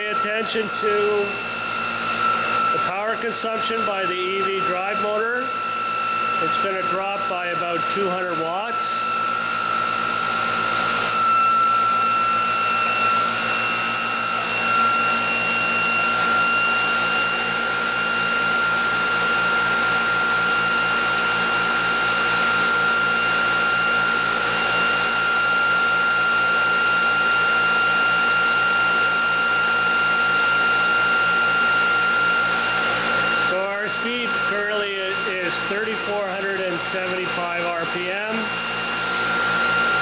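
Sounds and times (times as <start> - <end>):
electric motor whine: 0.0 - 40.0.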